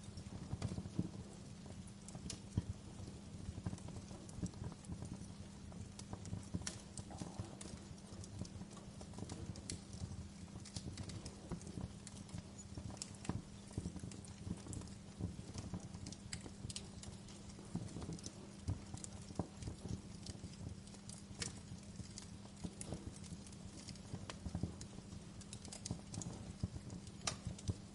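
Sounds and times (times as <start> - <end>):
fire popping and snapping: 0.0 - 27.9
low rumble of flames: 0.0 - 27.9.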